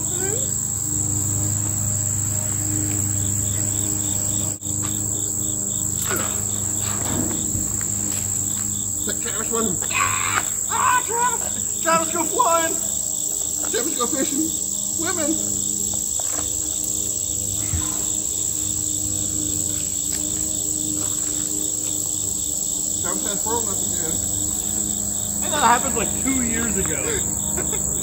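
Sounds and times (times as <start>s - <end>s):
insect pulsing trill: 0.0s - 28.0s
insects droning: 0.0s - 28.0s.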